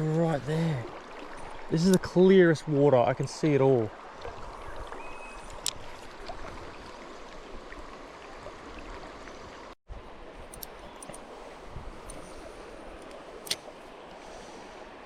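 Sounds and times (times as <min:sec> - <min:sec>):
river water rushing over shallows: 0:00.0 - 0:15.0.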